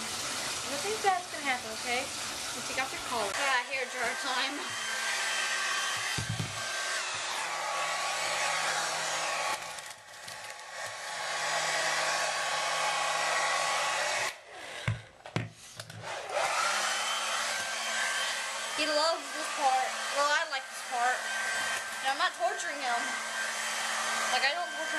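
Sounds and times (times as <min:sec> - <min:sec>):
hair dryer blowing: 0:00.0 - 0:24.9.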